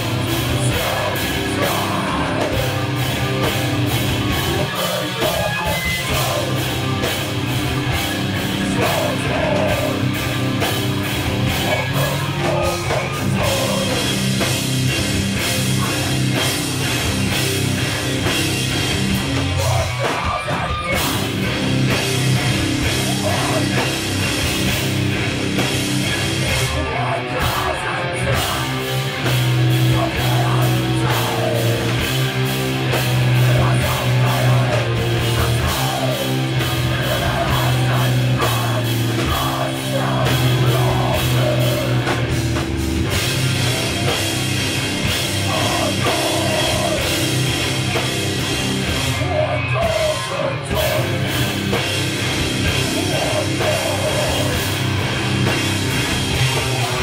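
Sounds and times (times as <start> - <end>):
bass guitar: 0.0 - 57.0
distorted electric guitars: 0.0 - 57.0
fast drum beat: 0.0 - 57.0
rock vocals: 0.0 - 57.0.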